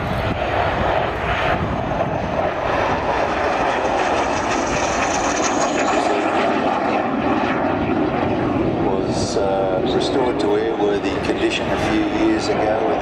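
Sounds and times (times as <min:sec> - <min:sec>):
jet engine roar: 0:00.0 - 0:13.0
jet high whine: 0:00.0 - 0:13.0.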